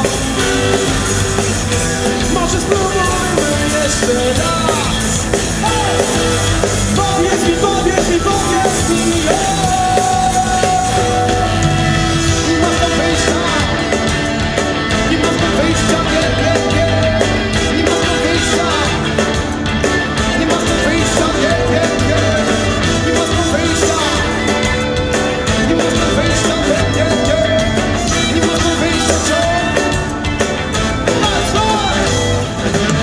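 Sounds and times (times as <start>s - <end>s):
horn section: 0.0s - 33.0s
live reggae band playing: 0.0s - 33.0s.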